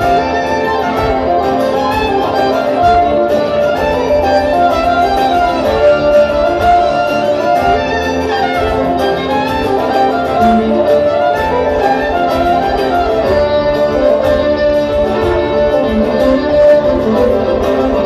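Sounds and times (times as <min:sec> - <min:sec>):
acoustic guitar: 0:00.0 - 0:18.0
banjo: 0:00.0 - 0:18.0
fiddles: 0:00.0 - 0:18.0.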